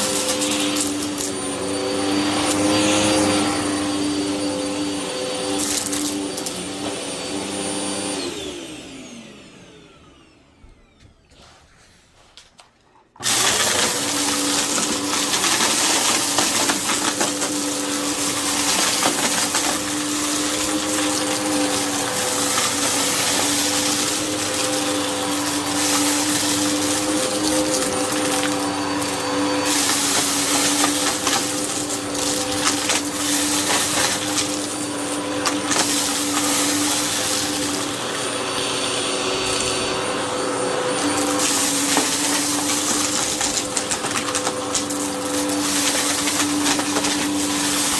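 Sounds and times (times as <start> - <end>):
vacuum cleaner running: 0.0 - 11.6, 13.2 - 47.9.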